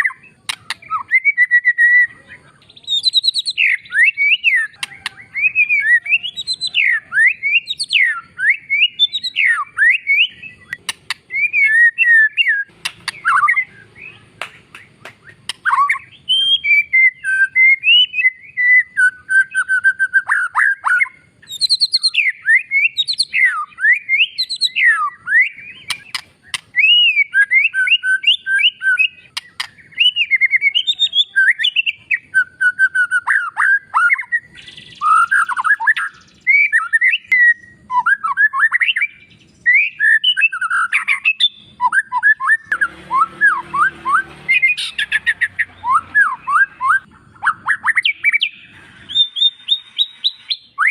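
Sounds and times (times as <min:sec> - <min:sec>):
bird singing whistled song: 0:00.0 - 0:50.9.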